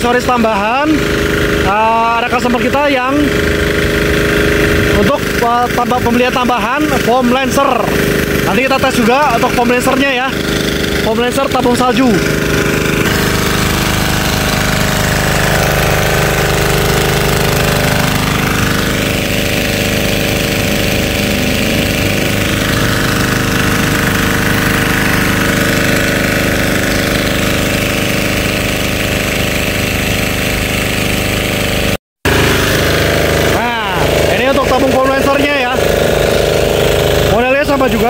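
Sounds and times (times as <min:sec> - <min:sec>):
small diesel engine running: 0:00.0 - 0:38.0.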